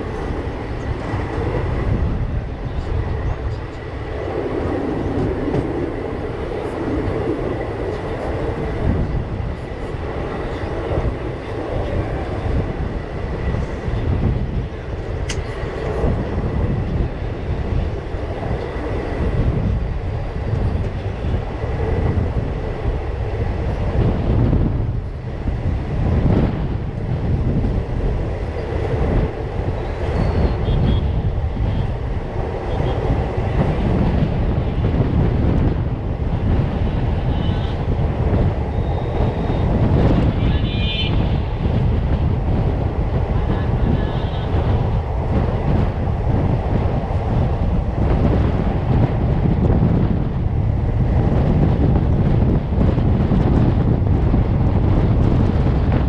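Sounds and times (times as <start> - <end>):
train rumble and wheel clatter: 0.0 - 56.0.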